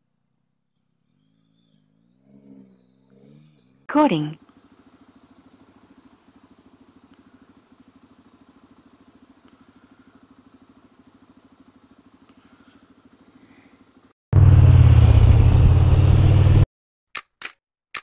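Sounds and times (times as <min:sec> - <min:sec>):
motorcycle engine idling: 0:00.8 - 0:16.6.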